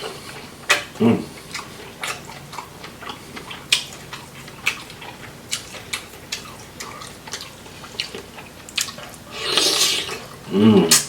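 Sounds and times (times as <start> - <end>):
wet chewing and lip-smacking: 0.0 - 11.0.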